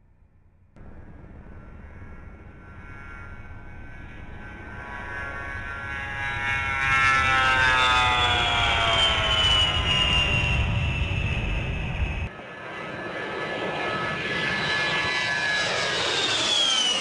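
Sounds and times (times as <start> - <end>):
jet engines whining: 0.8 - 17.0.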